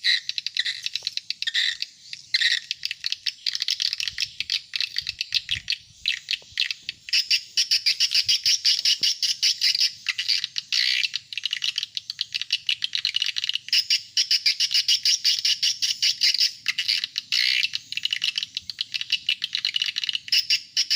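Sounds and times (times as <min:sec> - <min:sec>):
rapid high bird chirps: 0:00.0 - 0:20.9.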